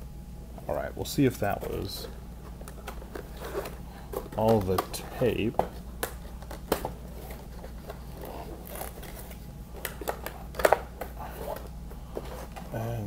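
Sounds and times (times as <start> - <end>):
cardboard packaging being opened: 1.6 - 12.7.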